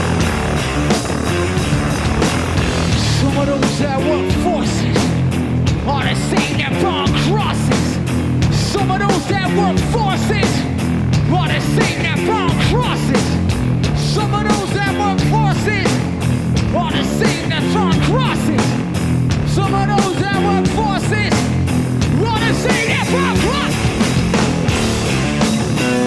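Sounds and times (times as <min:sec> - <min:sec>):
driving drum beat: 0:00.0 - 0:26.0
rock music: 0:00.0 - 0:26.0.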